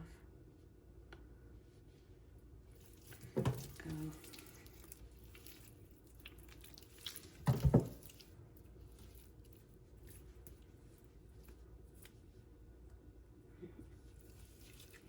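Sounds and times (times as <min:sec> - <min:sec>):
wet squishes of hands handling chicken: 0:01.8 - 0:15.0.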